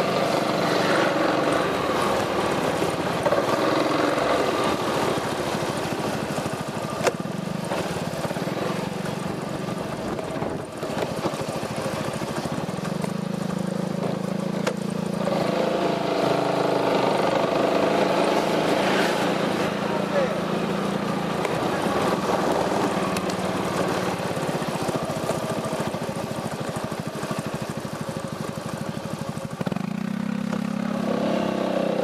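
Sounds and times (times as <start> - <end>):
scooter engine droning: 0.0 - 32.0.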